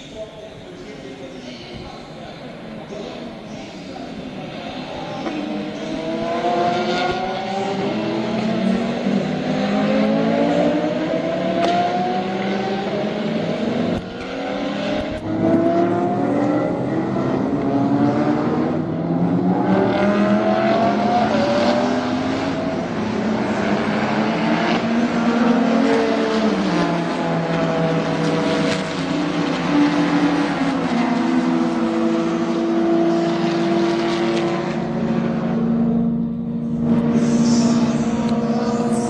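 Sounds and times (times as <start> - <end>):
race car engines passing: 1.6 - 39.0.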